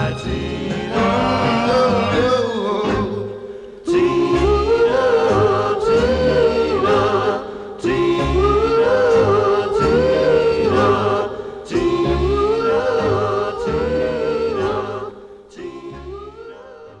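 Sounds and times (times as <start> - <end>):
backing band: 0.0 - 14.8
vocal group singing harmonies: 0.0 - 17.0.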